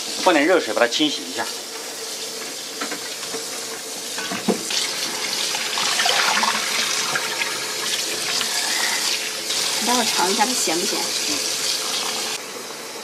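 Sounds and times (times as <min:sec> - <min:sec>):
water running into a basin: 0:00.2 - 0:12.4.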